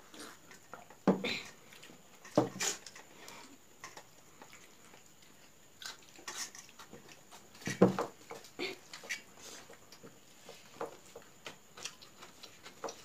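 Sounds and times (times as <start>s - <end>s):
hands mixing rice on plates: 0.0s - 13.0s.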